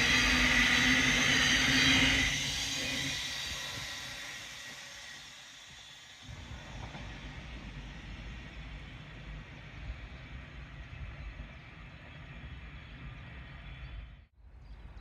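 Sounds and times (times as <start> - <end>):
train rumbling: 0.0 - 14.9.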